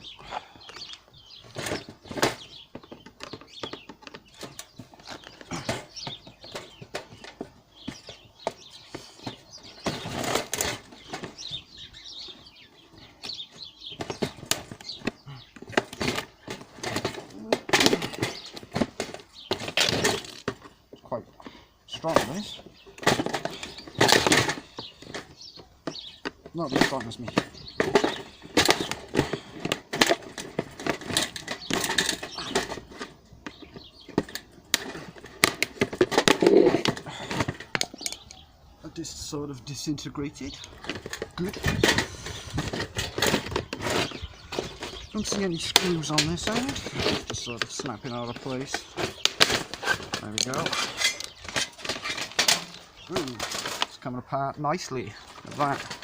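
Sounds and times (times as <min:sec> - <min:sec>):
plastic scraping: 0:00.5 - 0:39.2, 0:40.0 - 0:54.0, 0:55.0 - 0:56.0.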